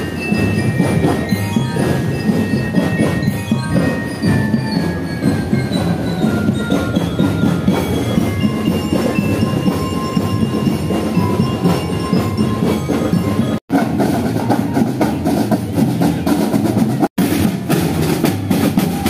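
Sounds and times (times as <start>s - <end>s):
bell-lyre melody: 0.0s - 16.9s
marching band playing: 0.0s - 19.0s
steady drumbeat: 0.0s - 19.0s.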